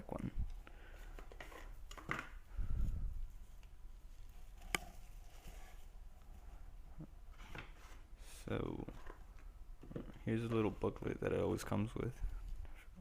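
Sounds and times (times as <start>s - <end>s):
faint packaging rustling: 0.5s - 13.0s.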